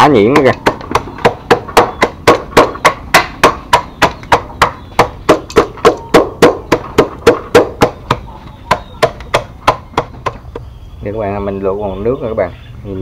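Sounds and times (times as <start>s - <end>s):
wooden pestle pounding in metal pot: 0.0s - 10.7s.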